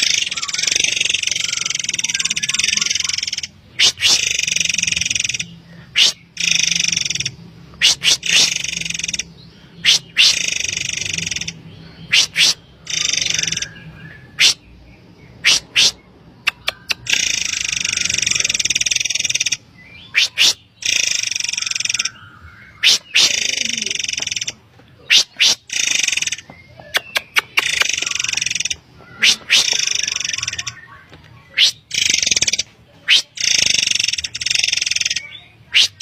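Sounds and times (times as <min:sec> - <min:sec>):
bird whistling and rasping: 0:00.0 - 0:14.6, 0:15.4 - 0:24.5, 0:25.1 - 0:36.0.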